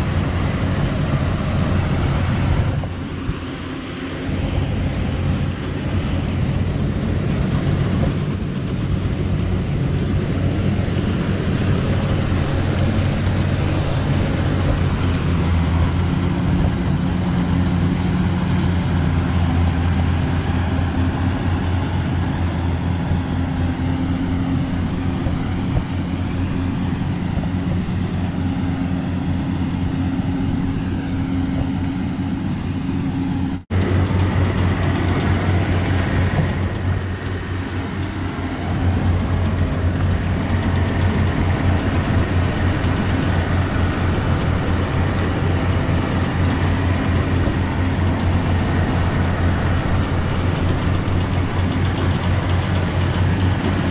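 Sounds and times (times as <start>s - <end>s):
combine harvester engine drone: 0.0s - 53.9s.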